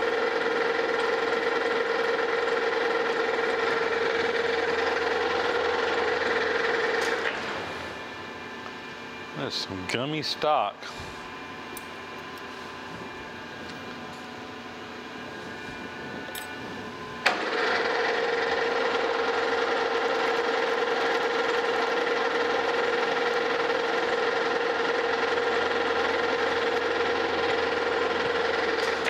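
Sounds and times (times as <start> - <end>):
lathe chuck whine: 0.0 - 9.8, 11.3 - 29.0
lathe mechanical hum: 0.0 - 29.0.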